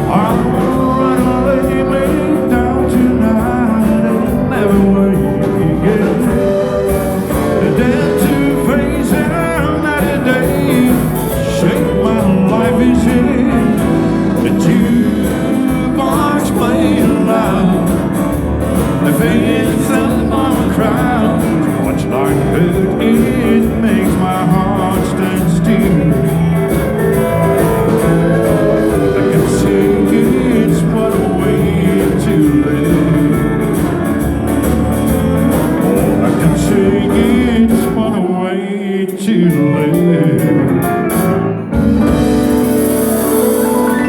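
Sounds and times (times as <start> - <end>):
guitar: 0.0 - 44.0
live country-rock band playing: 0.0 - 44.0
person singing: 0.0 - 44.0.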